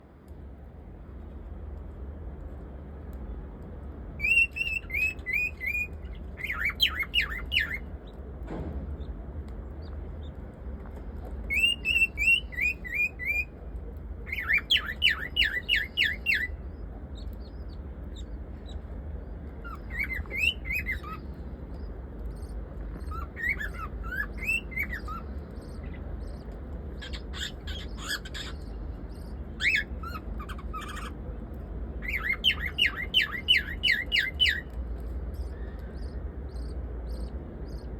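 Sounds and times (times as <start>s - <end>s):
small birds chirping and squawking: 4.2s - 13.6s, 14.2s - 37.9s.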